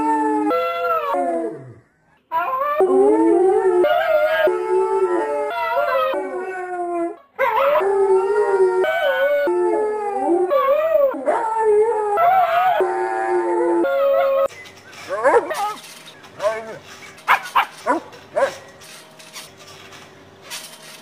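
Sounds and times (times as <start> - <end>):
huskies howling: 0.0 - 19.5.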